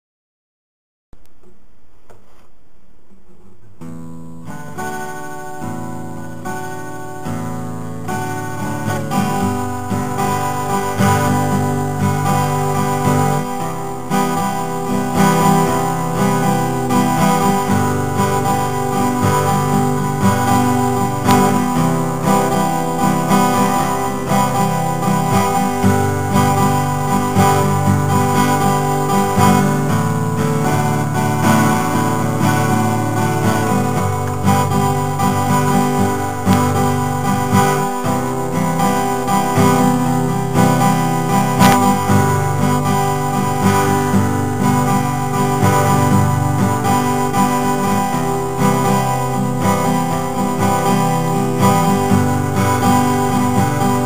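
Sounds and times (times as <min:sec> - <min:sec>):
guitar background music: 0:03.8 - 0:54.0.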